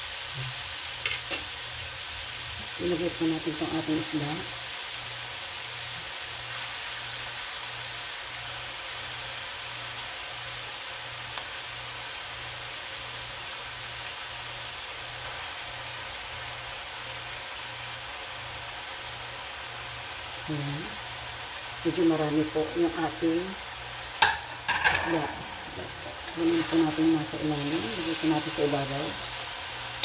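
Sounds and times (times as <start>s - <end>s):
food sizzling in a wok: 0.0s - 30.0s.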